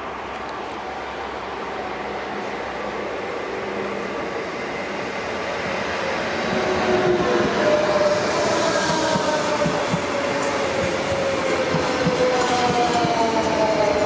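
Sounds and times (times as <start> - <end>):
electric train whine: 0.0 - 14.0.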